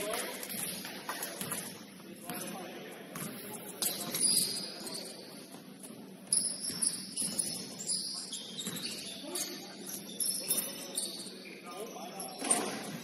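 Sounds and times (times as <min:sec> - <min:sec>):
low background noise: 0:00.0 - 0:13.0
shoes squeaking on court floor: 0:00.0 - 0:13.0.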